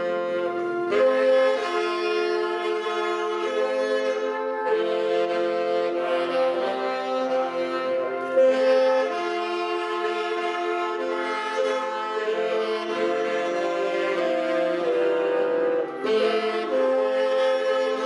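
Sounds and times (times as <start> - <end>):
saxophone ensemble playing a hymn: 0.0 - 18.0.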